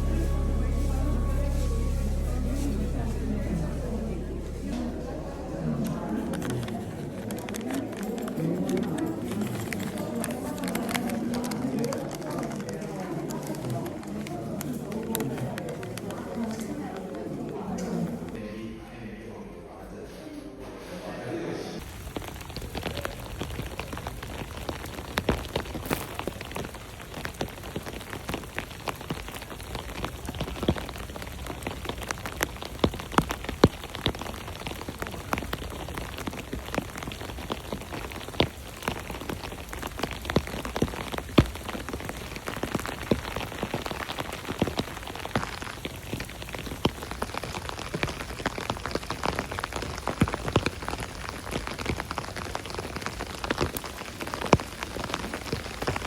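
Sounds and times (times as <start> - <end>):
raindrops hitting close surfaces: 0.0 - 18.4, 21.8 - 56.0
steady rain: 0.0 - 18.4, 21.8 - 56.0.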